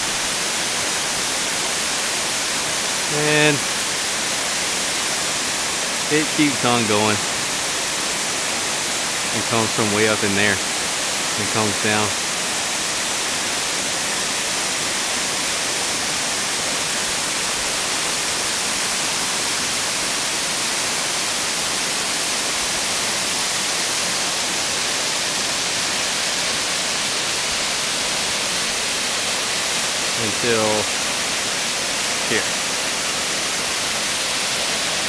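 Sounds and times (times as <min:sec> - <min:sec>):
waterfall crashing on rocks: 0:00.0 - 0:35.0.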